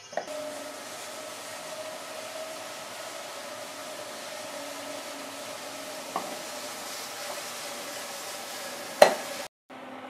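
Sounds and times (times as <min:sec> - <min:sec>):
steady hiss: 0:00.0 - 0:09.5
faint hum: 0:00.3 - 0:10.0.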